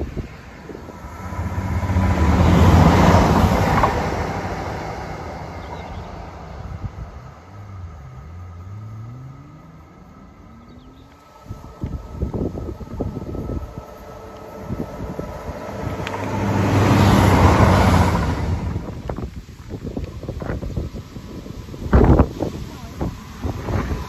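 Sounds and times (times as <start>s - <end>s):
approaching diesel train engine: 0.0s - 24.0s
diesel train passing: 0.0s - 24.0s.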